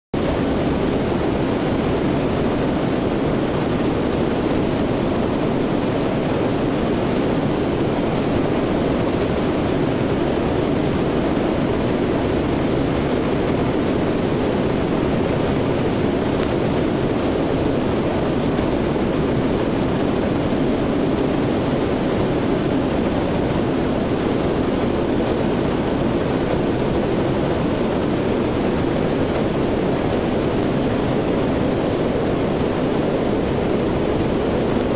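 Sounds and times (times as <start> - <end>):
turboprop engines running: 0.2 - 34.9.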